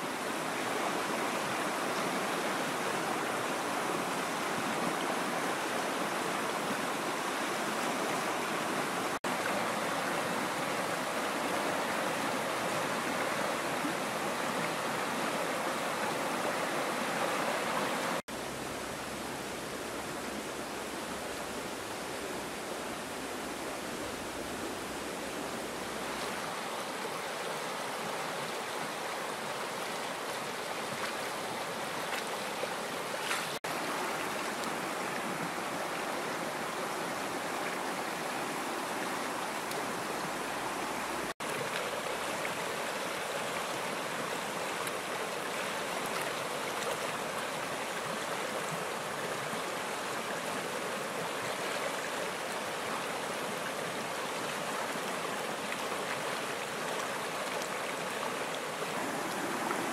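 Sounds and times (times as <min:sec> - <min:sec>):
river rushing over rapids: 0:00.0 - 0:59.9.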